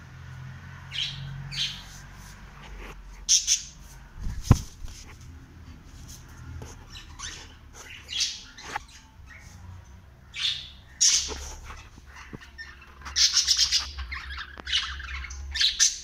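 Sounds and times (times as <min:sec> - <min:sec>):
parrots squawking and chattering: 0:00.8 - 0:04.6, 0:06.1 - 0:16.0.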